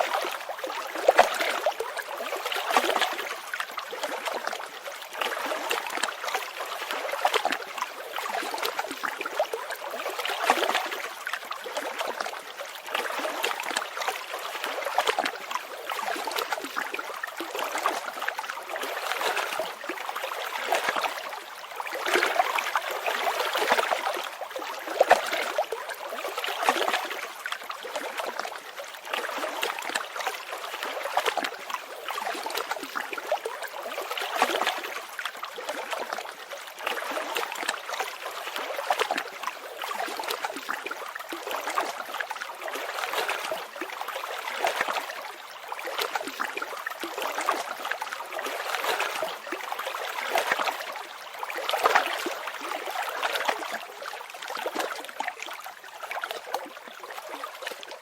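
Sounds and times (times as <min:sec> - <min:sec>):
stream water babbling: 0:00.0 - 0:58.0.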